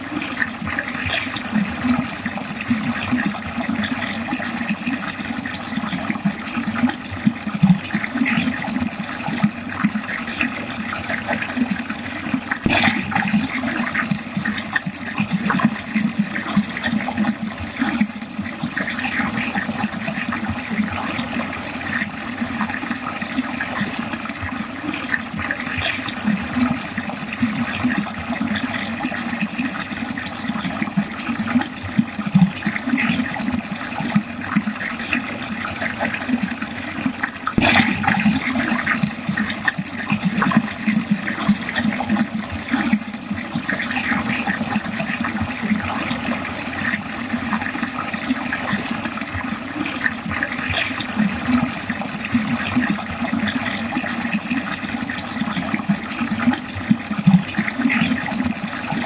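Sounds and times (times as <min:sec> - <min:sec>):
water flowing into a drain: 0:00.0 - 0:59.0.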